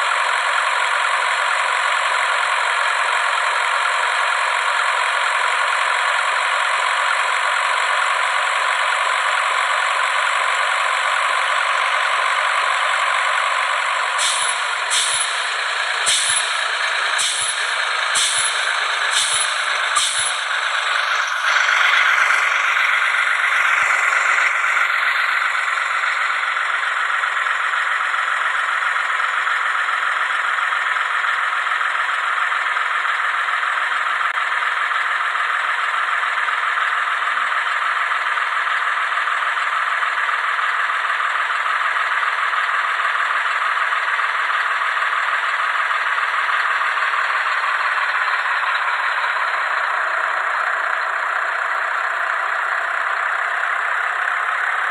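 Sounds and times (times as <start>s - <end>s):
truck running noise: 0.0s - 54.9s.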